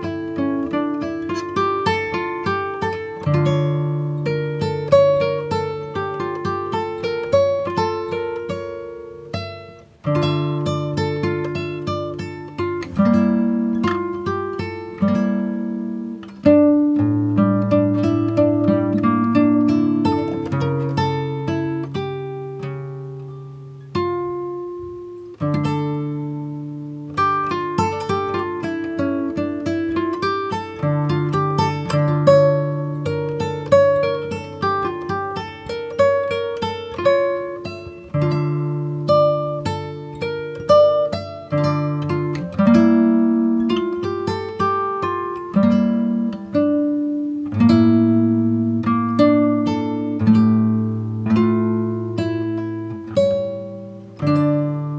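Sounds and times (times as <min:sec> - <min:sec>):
plucked acoustic guitar: 0:00.0 - 0:54.9.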